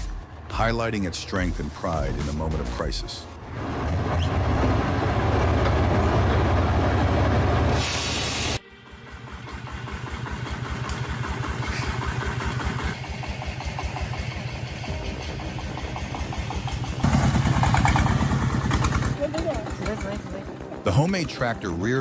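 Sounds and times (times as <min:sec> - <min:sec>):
vehicle engine running: 0:03.4 - 0:07.8, 0:08.6 - 0:21.9.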